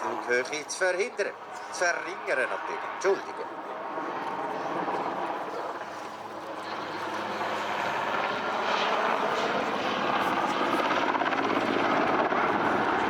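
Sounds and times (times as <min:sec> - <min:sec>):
helicopter rotor and turbines: 0:00.0 - 0:13.0.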